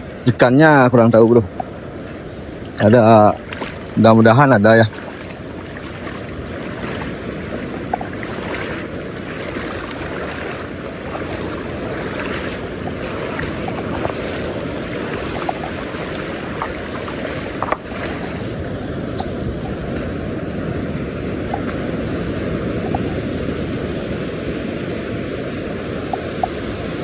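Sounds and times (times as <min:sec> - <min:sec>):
surf breaking on shore: 0:00.0 - 0:27.0
wind buffeting microphone: 0:00.0 - 0:27.0.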